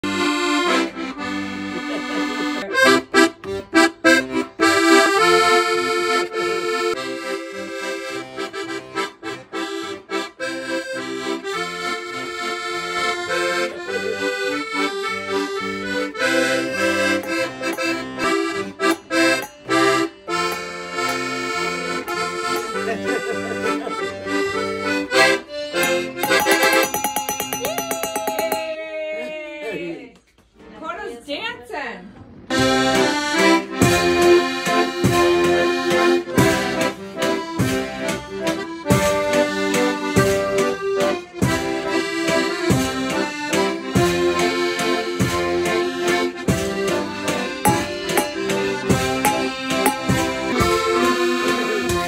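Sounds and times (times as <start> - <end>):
accordion playing a polka: 0.0 - 27.4, 32.5 - 52.0.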